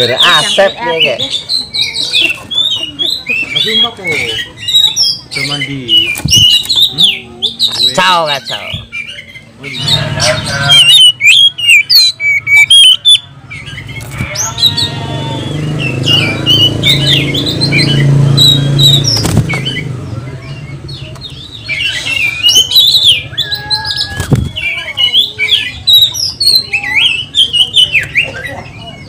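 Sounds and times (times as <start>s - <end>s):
bird chirping and calling: 0.0s - 29.0s.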